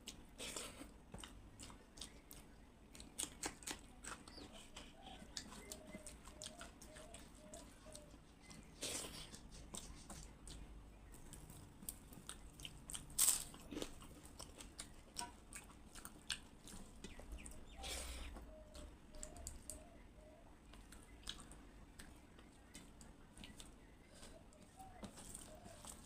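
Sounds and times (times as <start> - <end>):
person chewing crunchy food: 0.0 - 19.8, 20.6 - 26.0.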